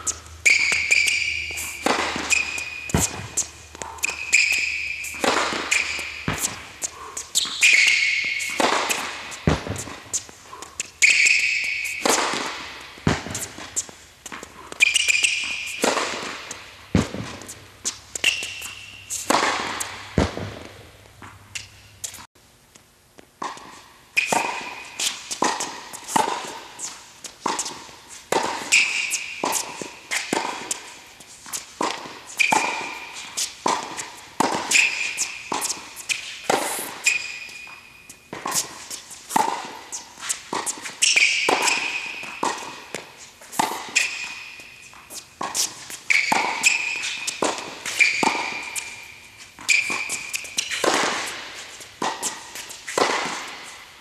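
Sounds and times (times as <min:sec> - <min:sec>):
tennis racket hitting ball: 0:00.0 - 0:22.3, 0:23.4 - 0:54.0.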